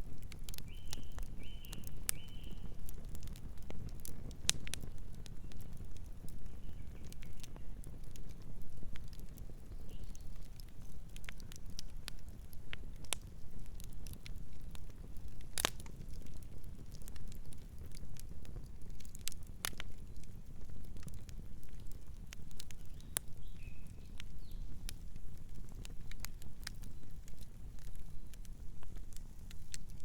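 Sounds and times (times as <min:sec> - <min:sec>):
low rumble of flames: 0:00.0 - 0:30.0
wood crackling and popping: 0:00.0 - 0:30.0.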